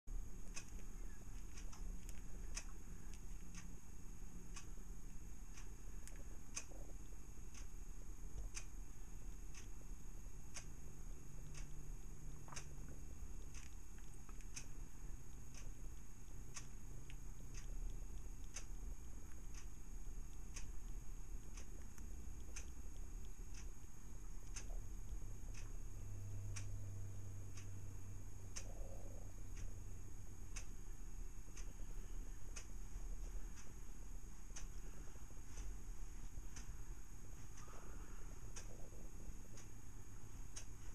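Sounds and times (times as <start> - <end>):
clock ticking: 0.1 - 40.9
low hum: 0.1 - 40.9.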